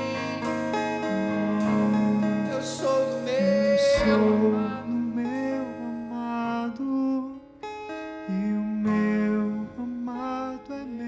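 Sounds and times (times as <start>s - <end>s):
person singing without words: 0.0s - 7.6s, 8.3s - 11.0s
acoustic guitar strummed softly: 0.0s - 11.0s.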